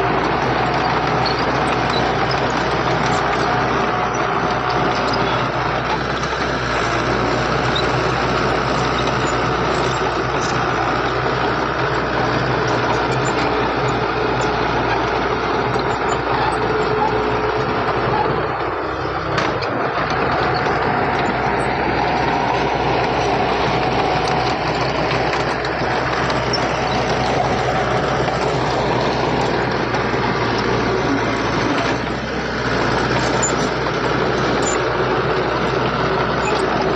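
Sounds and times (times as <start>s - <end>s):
diesel earthmoving machinery running: 0.0s - 36.9s.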